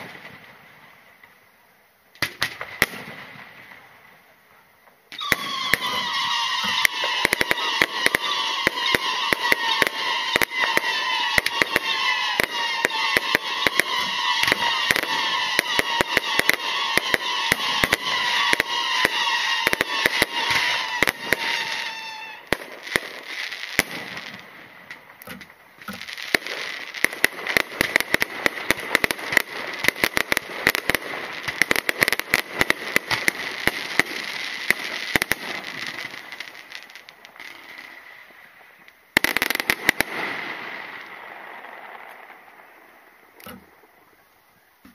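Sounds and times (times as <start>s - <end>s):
fireworks crackles and bangs: 0.0s - 1.4s, 2.2s - 44.2s.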